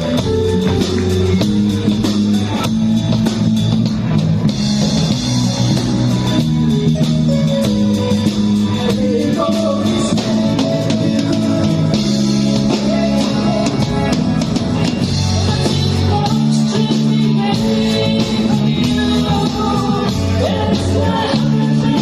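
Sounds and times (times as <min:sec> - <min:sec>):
bass notes: 0:00.0 - 0:22.0
drum kit beat: 0:00.0 - 0:22.0
electric guitar: 0:00.0 - 0:22.0.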